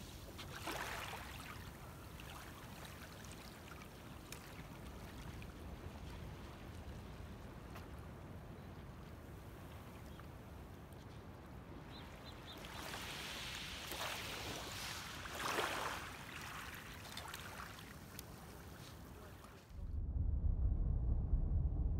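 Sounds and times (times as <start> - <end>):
water lapping on a beach: 0.0 - 19.7.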